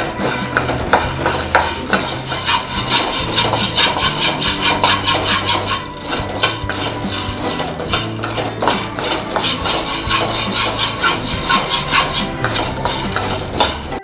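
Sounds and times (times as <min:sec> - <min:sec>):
background music with bass: 0:00.0 - 0:14.0
metal spatula scraping pan: 0:00.0 - 0:14.0.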